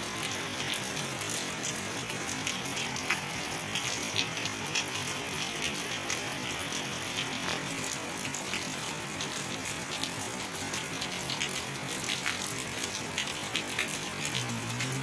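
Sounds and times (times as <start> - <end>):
raindrops ticking on hard surfaces: 0.0 - 15.0
steady rain hiss: 0.0 - 15.0.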